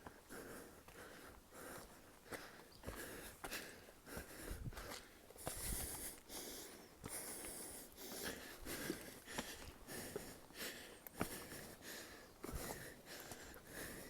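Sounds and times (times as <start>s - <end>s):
person breathing heavily: 0.0s - 14.0s.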